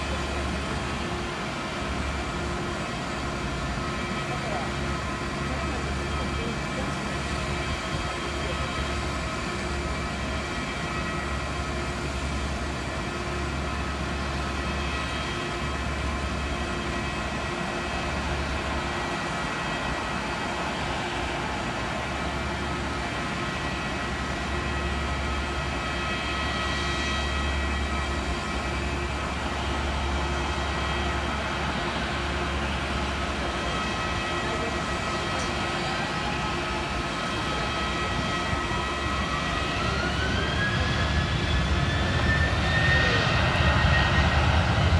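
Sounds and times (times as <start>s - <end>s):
jet engines rumbling and whining: 0.0s - 44.9s.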